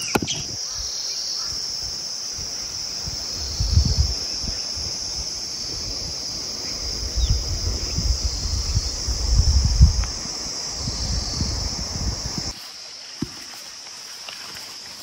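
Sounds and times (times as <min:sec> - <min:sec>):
insects chirring: 0:00.0 - 0:15.0
wind buffeting microphone: 0:00.2 - 0:12.6.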